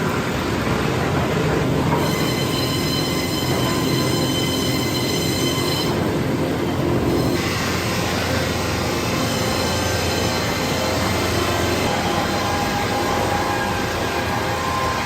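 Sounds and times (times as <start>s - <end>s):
heavy machinery running: 0.0s - 15.0s
high metallic squealing whine: 1.8s - 15.0s.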